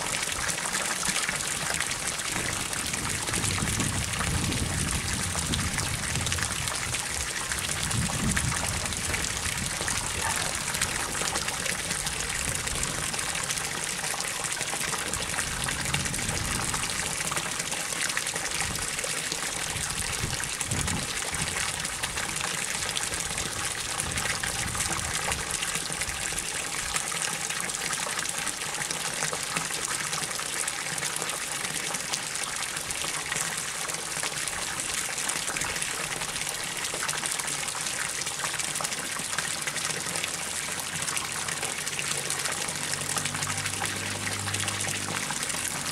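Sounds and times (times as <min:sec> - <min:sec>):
water pouring into a pond: 0:00.0 - 0:45.9.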